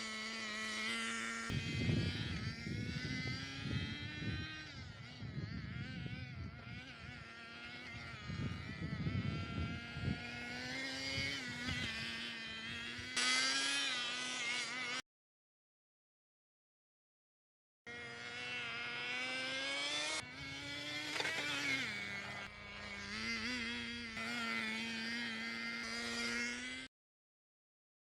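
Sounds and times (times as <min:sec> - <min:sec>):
rc car engine buzzing: 0:00.0 - 0:15.0, 0:17.9 - 0:26.9.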